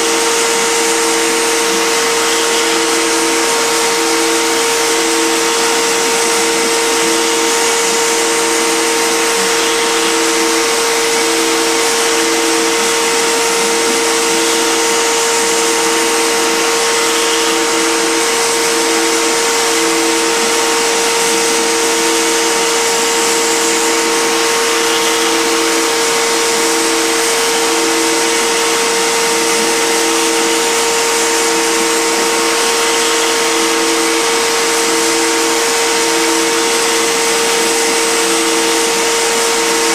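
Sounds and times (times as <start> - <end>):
spindle whining: 0.0 - 39.9
stepper motors humming: 0.0 - 39.9.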